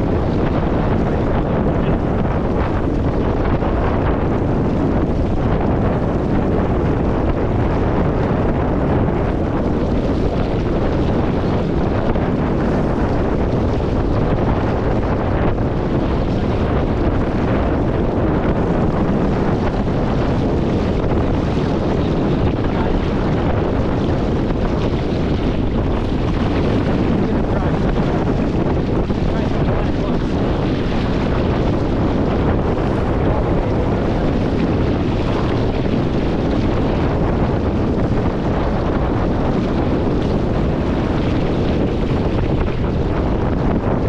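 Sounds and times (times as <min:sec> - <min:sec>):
water rushing along hull: 0:00.0 - 0:44.0
wind blowing across microphone: 0:00.0 - 0:44.0.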